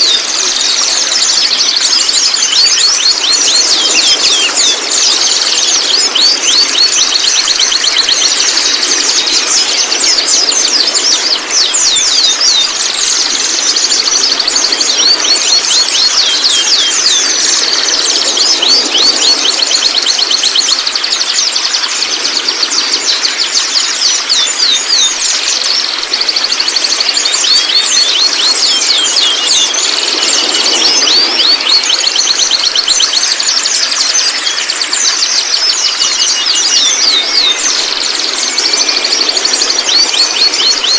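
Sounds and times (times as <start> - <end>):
young birds twittering: 0.0 - 40.9.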